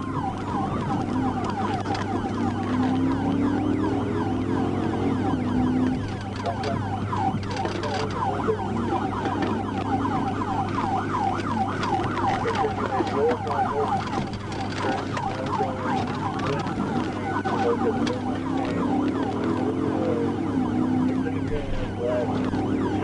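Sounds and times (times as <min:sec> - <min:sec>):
car engine hum: 0:00.0 - 0:23.0
police siren yelping: 0:00.0 - 0:23.0.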